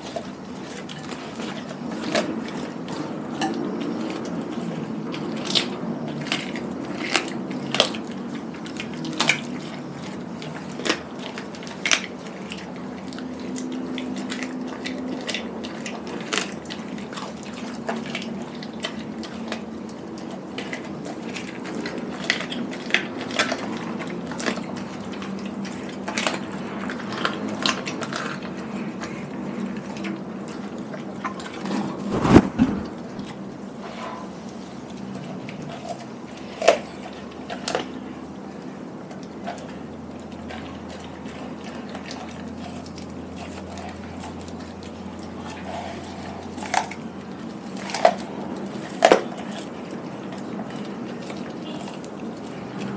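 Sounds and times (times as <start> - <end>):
dog chewing wet mouth sounds: 0.0 - 52.9.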